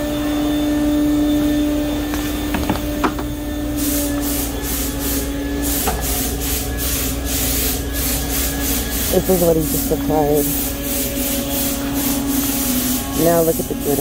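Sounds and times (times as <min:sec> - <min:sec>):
machine hum: 0:00.0 - 0:14.0
spray gun hissing bursts: 0:02.4 - 0:14.0.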